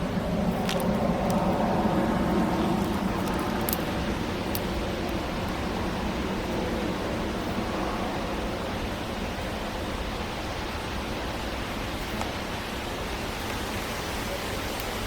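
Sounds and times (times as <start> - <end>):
rumbling background noise: 0.0 - 15.0.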